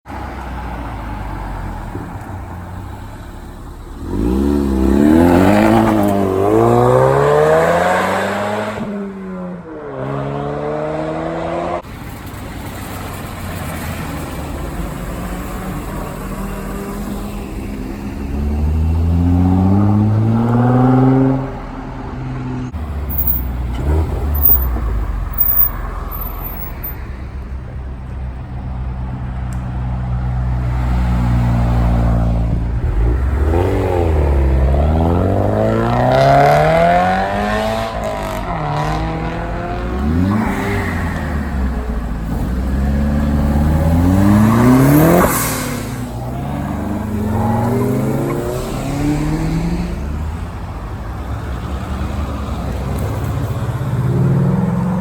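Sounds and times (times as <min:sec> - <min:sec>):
car engines accelerating: 0:00.1 - 0:55.0.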